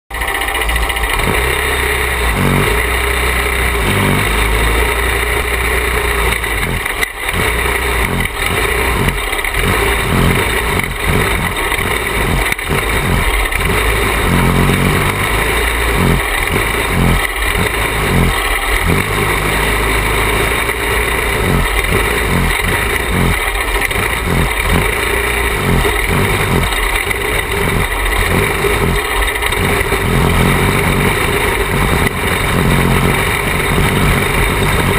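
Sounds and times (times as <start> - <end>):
kart engine revving: 0.1 - 34.9.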